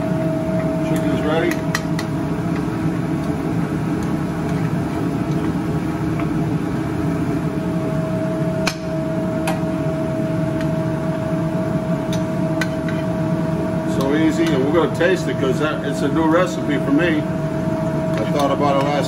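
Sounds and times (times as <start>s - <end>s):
kitchen hum with whine: 0.0s - 19.0s.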